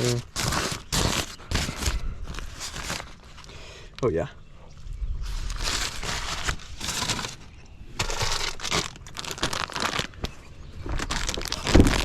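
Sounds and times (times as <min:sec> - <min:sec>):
food wrapper crinkling: 0:00.0 - 0:03.5, 0:05.3 - 0:12.0.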